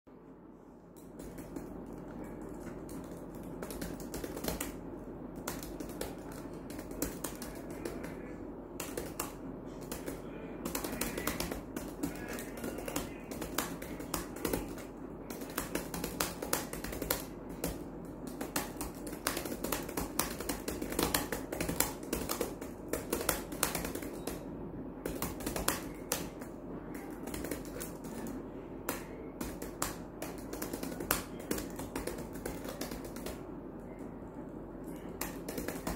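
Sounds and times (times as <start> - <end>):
fast laptop keyboard typing: 1.0 - 33.9, 34.9 - 35.9.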